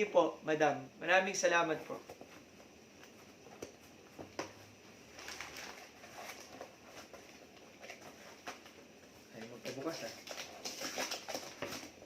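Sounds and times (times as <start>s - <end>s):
light rustling of packaging: 1.7s - 12.0s.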